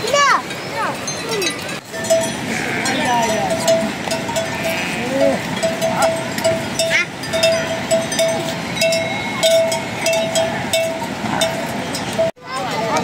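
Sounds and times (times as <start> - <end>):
livestock bells clinking: 0.0 - 13.0.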